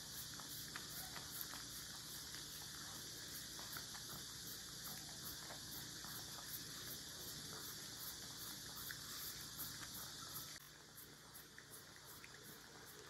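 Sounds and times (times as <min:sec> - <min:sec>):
dog licking ice pop: 0:00.0 - 0:13.0
steady high hiss: 0:00.0 - 0:13.0.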